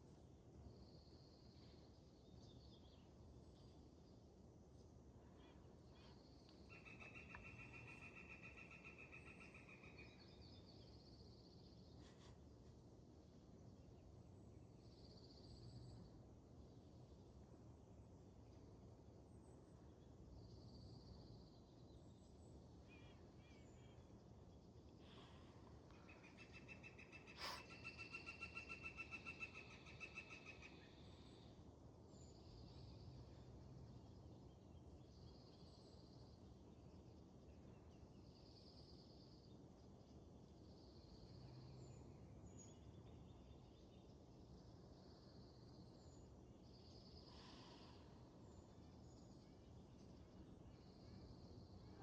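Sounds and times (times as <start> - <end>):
faint birdsong: 0.0 - 52.0.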